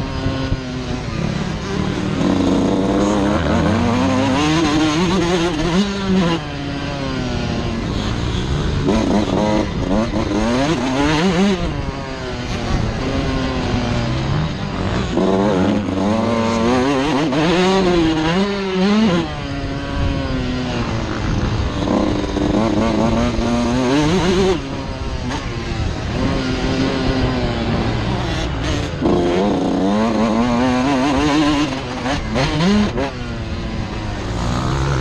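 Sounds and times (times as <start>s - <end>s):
motocross engine revving: 0.0s - 35.0s.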